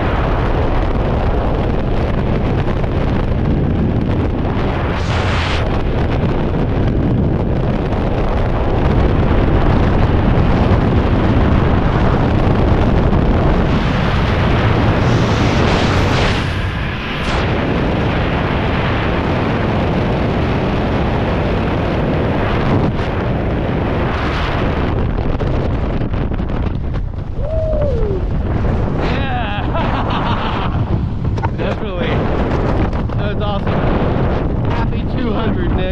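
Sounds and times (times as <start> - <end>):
freefall wind buffeting microphone: 0.0 - 35.9.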